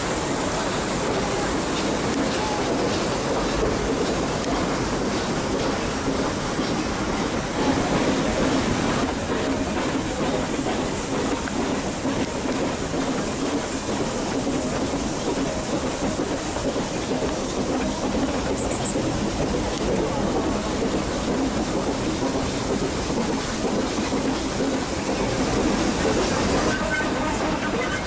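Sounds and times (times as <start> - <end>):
train wheels rumbling and rattling: 0.0 - 28.0.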